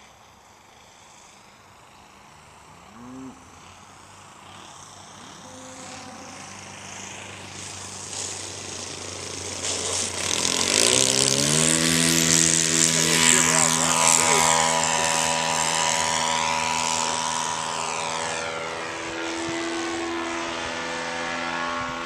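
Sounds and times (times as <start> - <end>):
model plane engine: 0.0 - 22.0.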